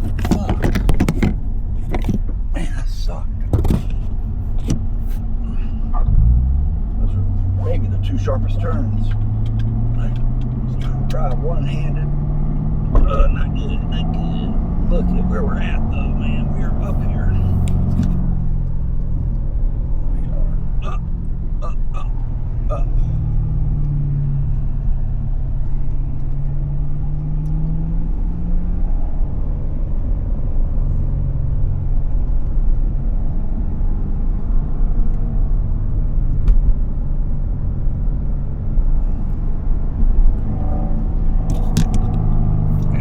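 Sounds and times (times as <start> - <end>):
car engine running steadily: 0.0 - 43.0.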